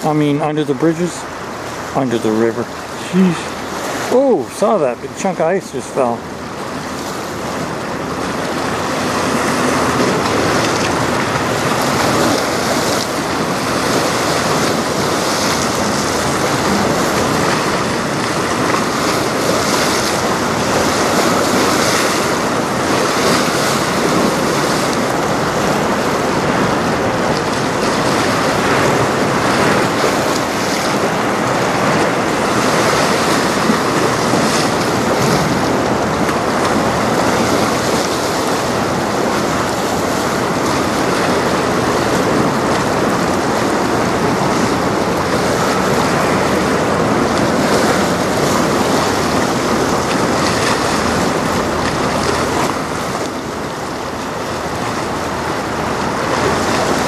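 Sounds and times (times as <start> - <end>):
water splashing and lapping: 0.0 - 57.0
wind noise on microphone: 6.2 - 57.0.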